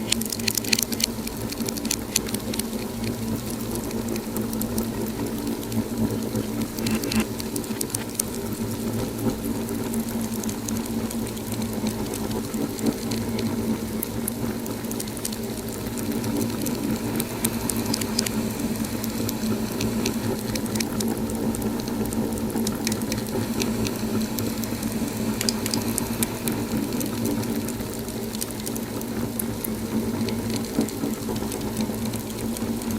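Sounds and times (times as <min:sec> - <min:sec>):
steady low hum: 0:00.0 - 0:32.9
wood fire crackling: 0:00.0 - 0:32.9.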